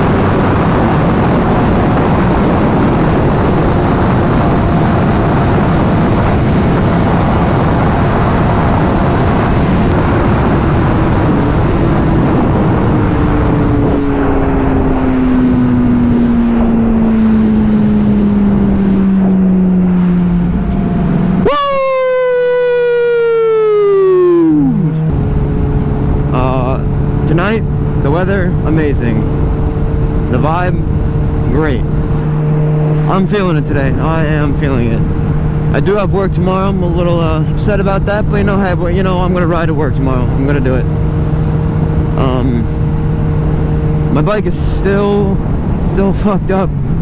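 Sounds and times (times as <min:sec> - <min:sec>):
motorcycle engine: 0:00.0 - 0:45.9
heavy wind rush: 0:00.0 - 0:47.0.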